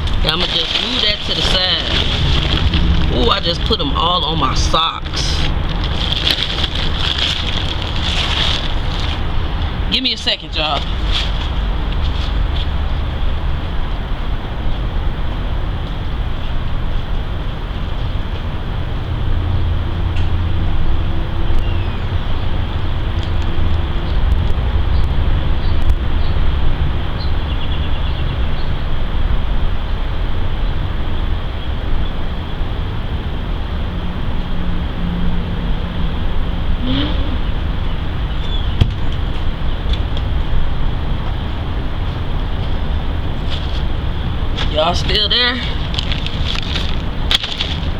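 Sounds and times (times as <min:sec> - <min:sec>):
low outdoor rumble: 0:00.0 - 0:47.9.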